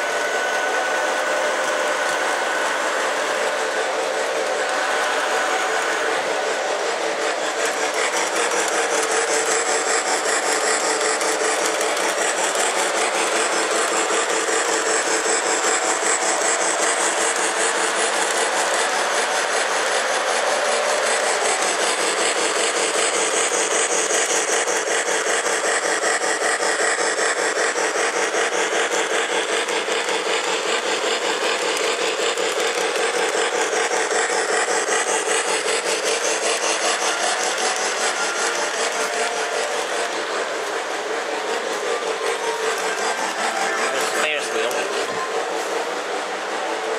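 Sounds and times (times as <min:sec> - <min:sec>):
model train whirring rumble: 0:00.0 - 0:46.9.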